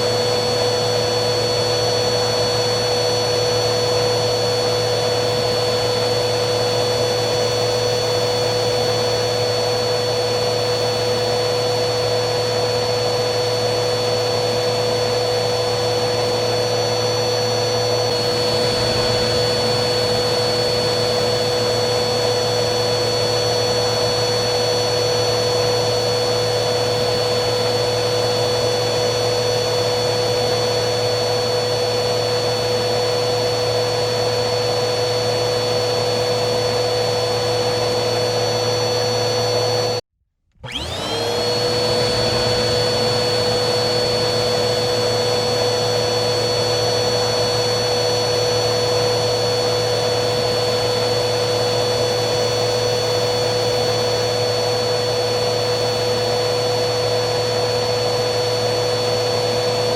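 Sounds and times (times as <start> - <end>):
vacuum cleaner motor whining: 0.0 - 59.9.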